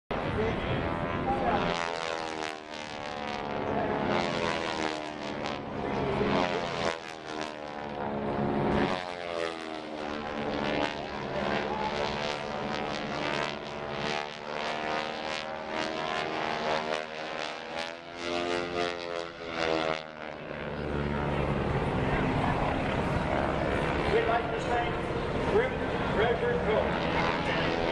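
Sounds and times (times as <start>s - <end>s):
propeller airplane engine drone: 0.1s - 27.9s.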